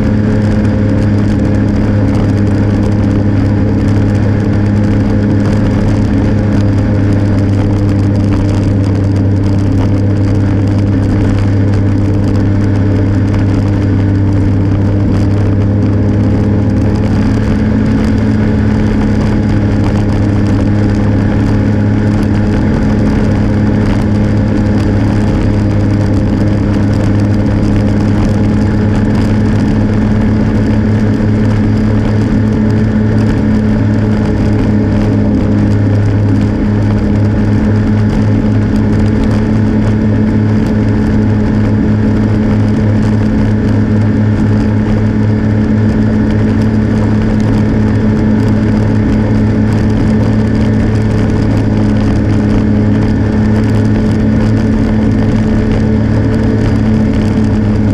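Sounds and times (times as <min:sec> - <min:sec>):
tires on snow-packed road: 0:00.0 - 0:57.9
vehicle engine droning: 0:00.0 - 0:57.9.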